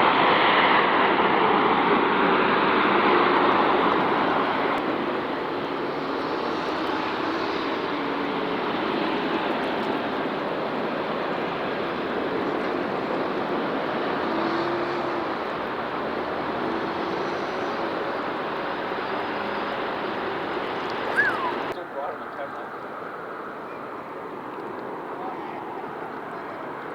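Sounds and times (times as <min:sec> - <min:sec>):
faint engine whine: 0:00.0 - 0:26.9
jet engines roaring past: 0:00.0 - 0:26.9.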